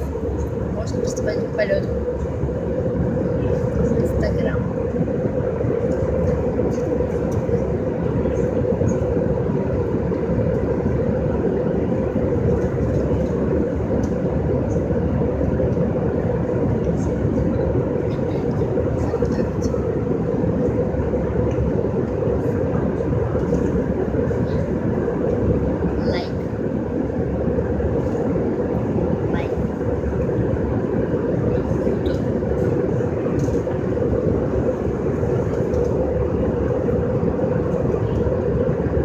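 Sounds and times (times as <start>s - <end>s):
airliner cabin drone: 0.0s - 39.0s.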